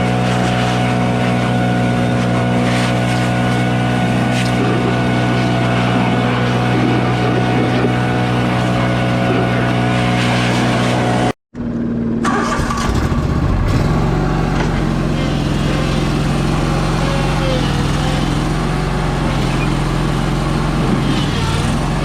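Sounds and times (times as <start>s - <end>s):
engine running steadily: 0.0s - 22.0s
engine varying in pitch: 0.0s - 22.0s.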